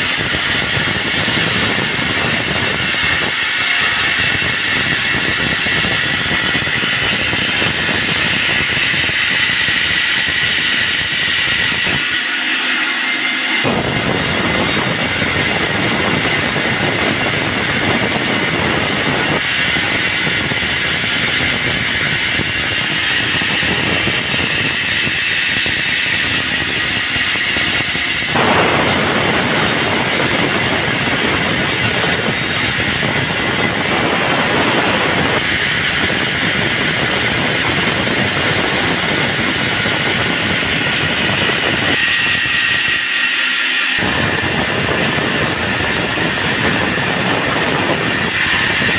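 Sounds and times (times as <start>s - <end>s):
band saw sawing timber: 0.0s - 48.9s.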